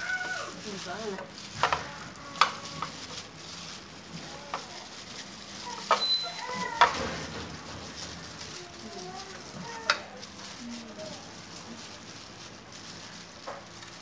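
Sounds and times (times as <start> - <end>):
plastic glove crinkling: 0.0 - 14.0
wet squelching of chicken: 0.0 - 14.0.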